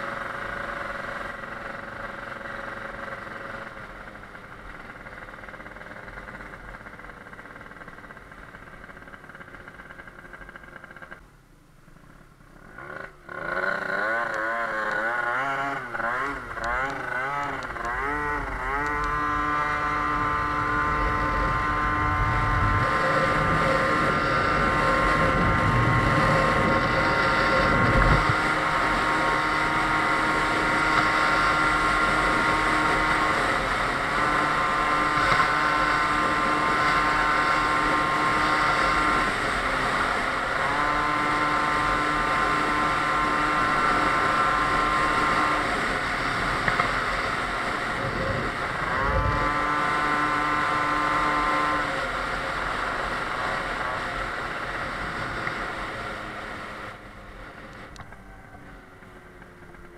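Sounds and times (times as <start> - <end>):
two-stroke scooter engine revving: 0.0 - 11.2, 12.1 - 59.9.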